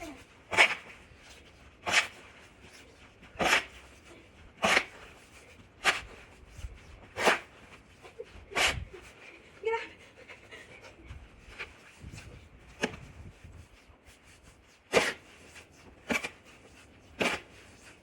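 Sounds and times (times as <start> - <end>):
snow shovel scraping snow: 0.0 - 9.2, 11.4 - 18.0.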